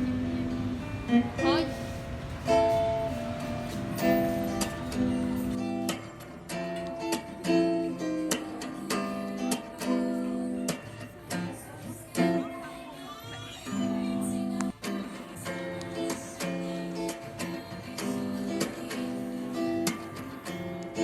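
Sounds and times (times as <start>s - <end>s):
acoustic guitar strumming: 0.0s - 12.9s, 13.8s - 21.0s.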